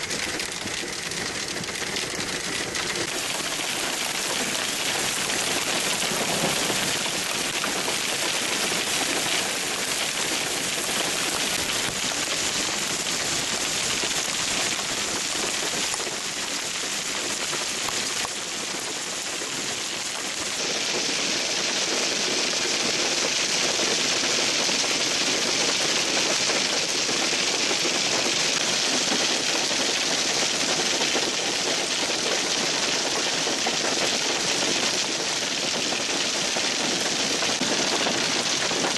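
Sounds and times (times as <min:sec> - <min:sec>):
hail pelting road and cars: 0:00.0 - 0:38.9
rain hiss: 0:00.0 - 0:38.9.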